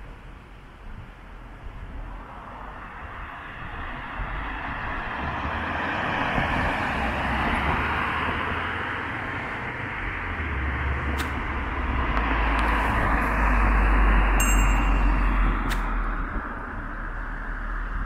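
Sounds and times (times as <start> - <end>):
vehicle approaching: 1.8 - 18.0
car passing: 1.9 - 18.0.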